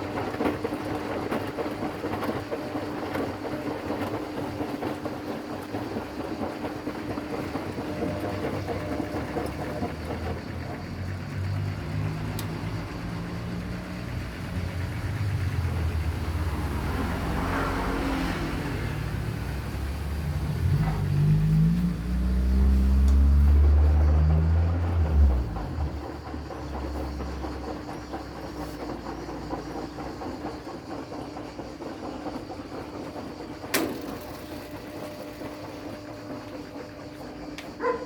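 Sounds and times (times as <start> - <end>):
washing machine motor humming: 0.0 - 38.0.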